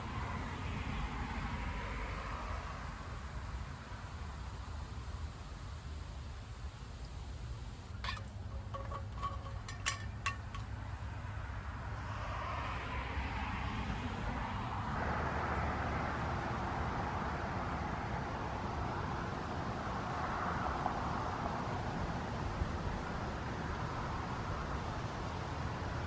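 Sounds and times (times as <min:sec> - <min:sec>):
distant traffic rumble: 0:00.0 - 0:26.0
vehicle noise: 0:00.0 - 0:26.0
wind: 0:00.0 - 0:26.0.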